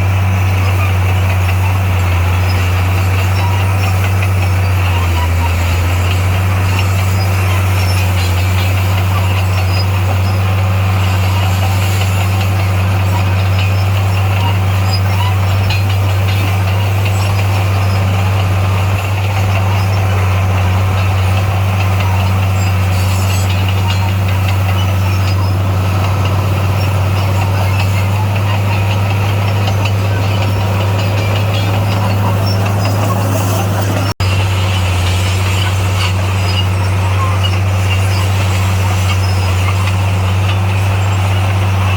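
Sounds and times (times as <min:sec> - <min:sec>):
heavy machine engine humming: 0:00.0 - 0:41.9.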